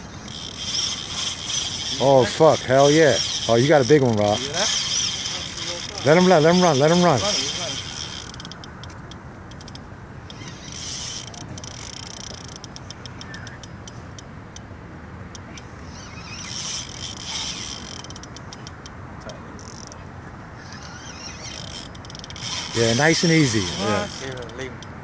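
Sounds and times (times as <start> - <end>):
fishing reel drag clicking: 0.0 - 14.7, 15.4 - 19.0, 19.6 - 20.0, 20.6 - 25.0.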